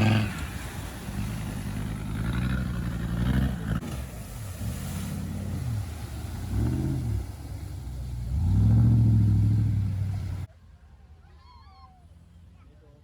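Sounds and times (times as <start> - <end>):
engine revving: 0.0 - 10.5.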